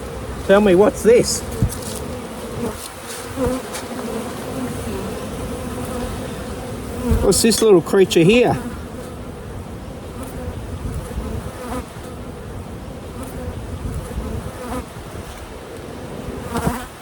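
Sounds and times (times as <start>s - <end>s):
bees flying close past: 0.0s - 17.0s
honeybees buzzing: 0.0s - 17.0s.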